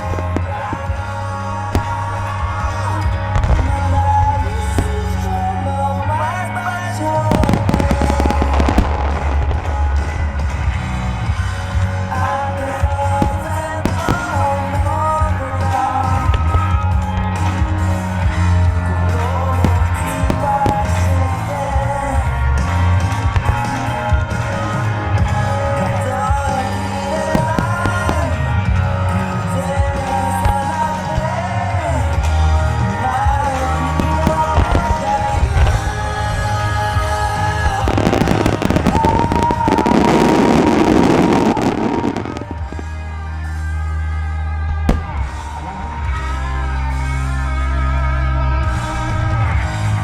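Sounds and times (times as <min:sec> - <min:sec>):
fireworks bangs and crackles: 0:00.0 - 0:44.0, 0:44.6 - 0:47.2
loud music from sound system: 0:00.0 - 0:50.0.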